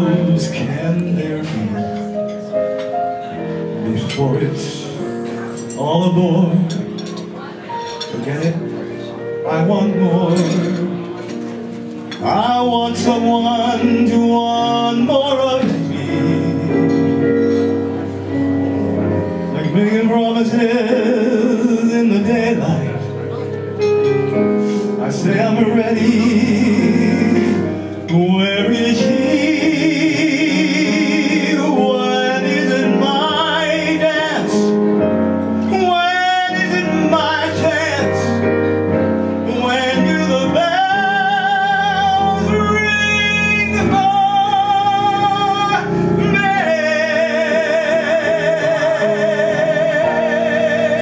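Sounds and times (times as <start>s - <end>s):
man singing with vibrato: 0.0s - 2.4s, 3.7s - 7.1s, 8.0s - 11.3s, 12.2s - 17.5s, 18.9s - 23.3s, 24.8s - 51.0s
keyboard accompaniment: 0.0s - 51.0s.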